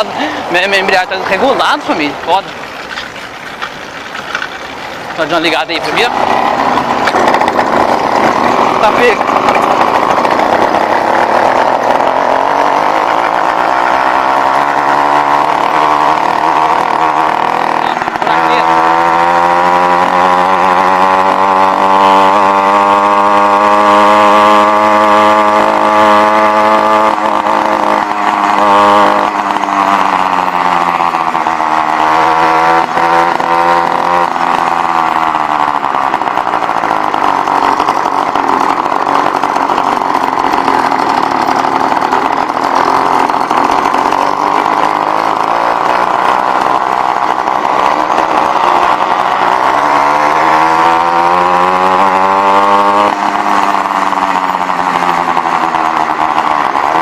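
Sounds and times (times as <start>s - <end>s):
small bicycle engine running: 0.0s - 57.0s.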